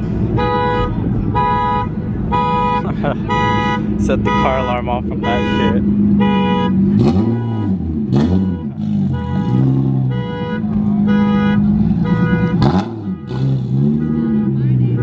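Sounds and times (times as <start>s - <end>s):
car engine revving: 0.0s - 15.0s
car alarm beeping and wailing: 0.4s - 15.0s.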